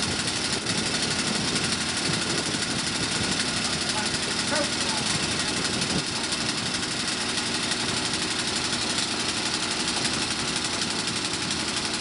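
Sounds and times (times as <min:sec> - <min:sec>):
snow blower engine running: 0:00.0 - 0:12.0.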